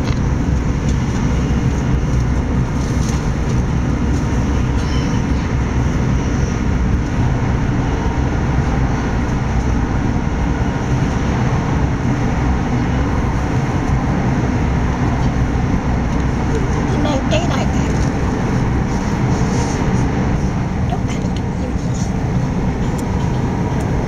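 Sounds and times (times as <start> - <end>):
train carriage rumble: 0.0 - 24.0.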